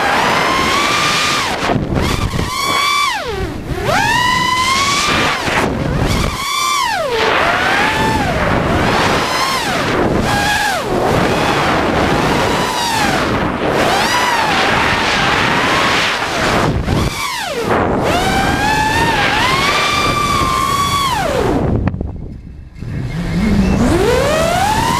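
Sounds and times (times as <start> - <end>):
drone motors whining: 0.0 - 24.9
wind rushing over microphone: 0.0 - 24.9.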